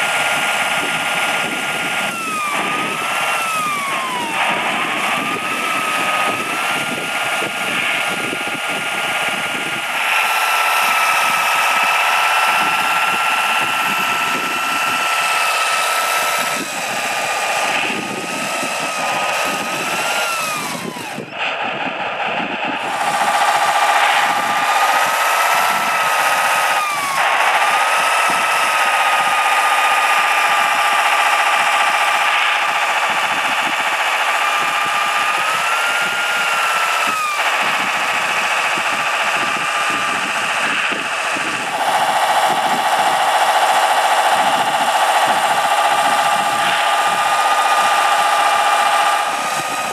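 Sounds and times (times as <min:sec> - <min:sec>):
electric motor and gears whining: 0:00.0 - 0:49.9.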